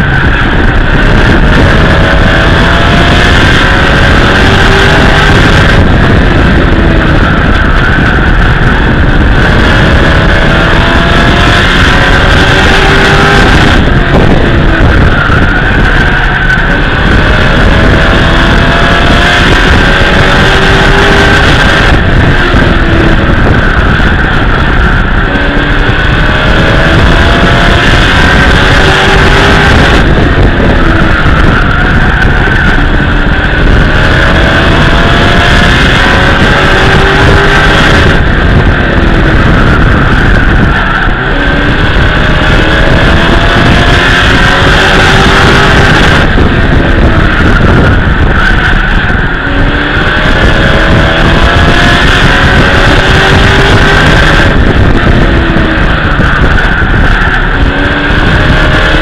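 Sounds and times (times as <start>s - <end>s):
road noise: 0.0s - 59.0s
truck engine revving: 0.0s - 59.0s.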